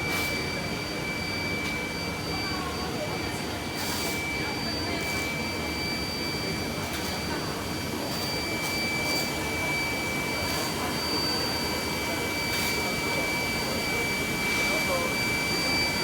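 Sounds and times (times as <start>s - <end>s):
machinery with high-pitched whine: 0.0s - 16.0s.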